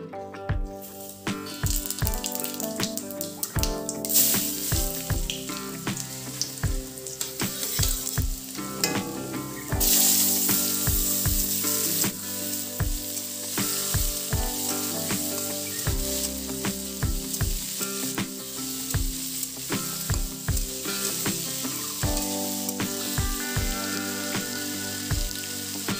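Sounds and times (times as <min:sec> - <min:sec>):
food sizzling in hot oil: 0:00.8 - 0:25.9.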